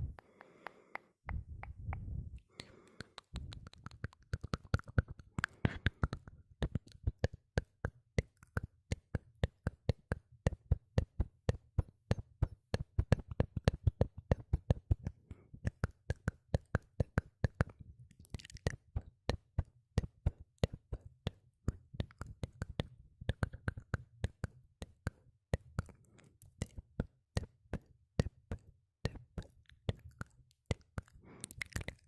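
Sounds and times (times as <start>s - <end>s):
wet mouth clicks and pops: 0.1s - 11.2s, 11.8s - 32.0s.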